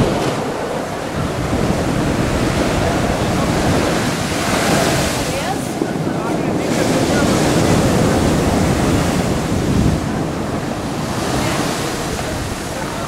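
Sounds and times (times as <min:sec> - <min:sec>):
surf crashing against shore: 0:00.0 - 0:13.0
wind buffeting microphone: 0:00.0 - 0:13.0.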